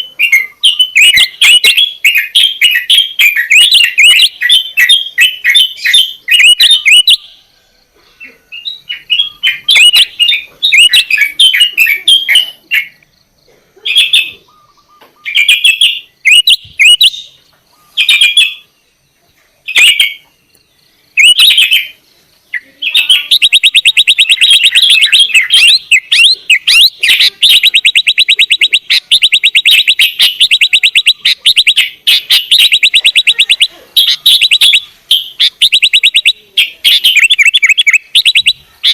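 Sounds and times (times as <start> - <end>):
bird singing chattering notes: 0.0 - 7.3, 8.1 - 38.9.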